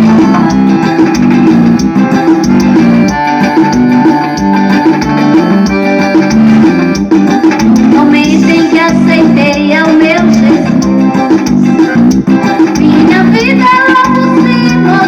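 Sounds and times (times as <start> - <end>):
loud music with steady beat: 0.0 - 15.0.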